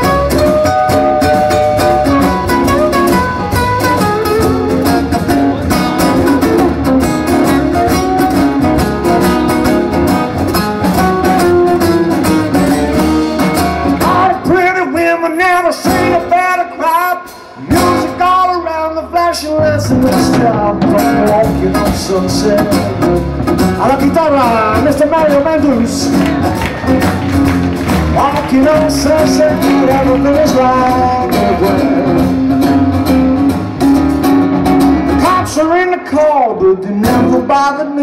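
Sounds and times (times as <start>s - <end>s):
drum kit: 0.0s - 36.2s, 36.9s - 37.7s
acoustic guitars playing: 0.0s - 38.0s.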